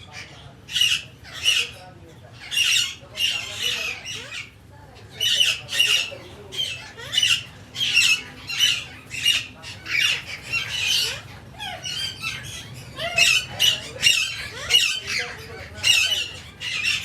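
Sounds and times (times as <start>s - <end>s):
birds squawking: 0.0s - 17.0s.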